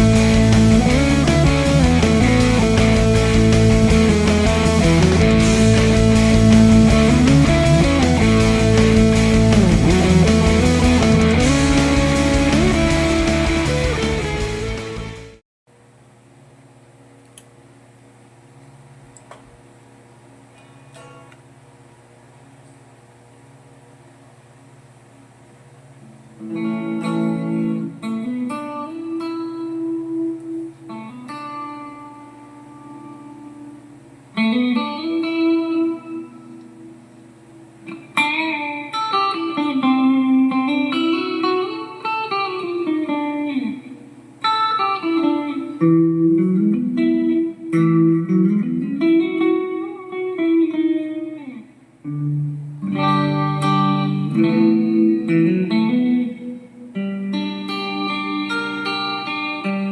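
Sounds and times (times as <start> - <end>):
electric guitar chords and single notes: 0.0 - 15.4, 26.0 - 59.9.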